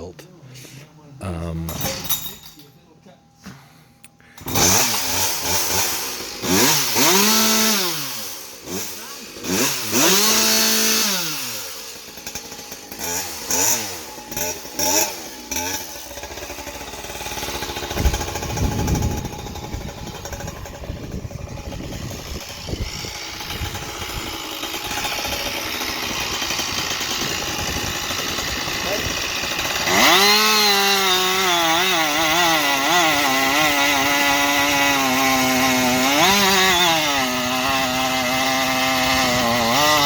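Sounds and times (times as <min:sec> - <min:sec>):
chainsaw revving: 0:04.4 - 0:40.0.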